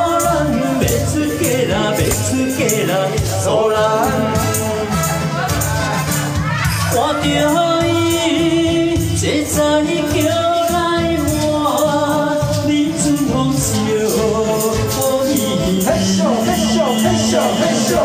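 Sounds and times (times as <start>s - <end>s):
folk song with held notes: 0.0s - 18.0s
instrumental accompaniment: 0.0s - 18.0s.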